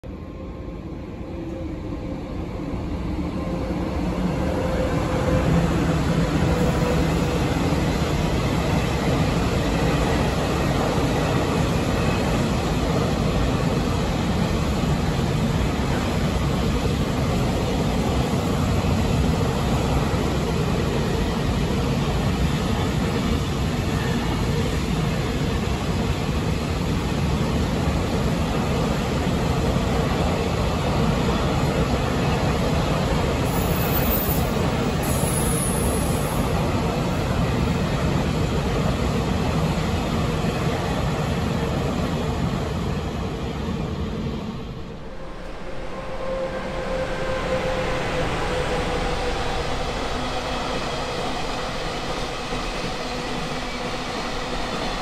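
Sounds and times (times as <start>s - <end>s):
freight train rumbling past: 0.1s - 55.0s.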